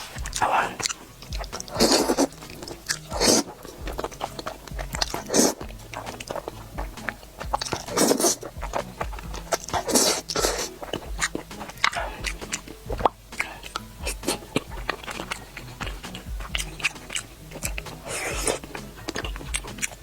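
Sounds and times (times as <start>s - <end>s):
faint background music: 0.0s - 20.0s
person chewing and slurping: 0.0s - 20.0s.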